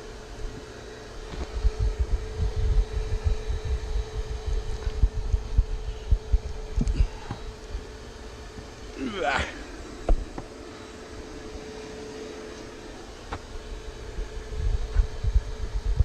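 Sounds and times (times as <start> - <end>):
honey bee colony humming: 0.0 - 16.0.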